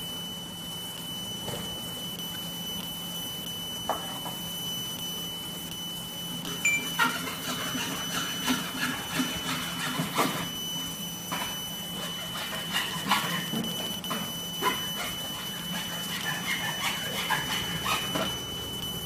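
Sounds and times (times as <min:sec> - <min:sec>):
laser marking machine whine: 0:00.0 - 0:19.0.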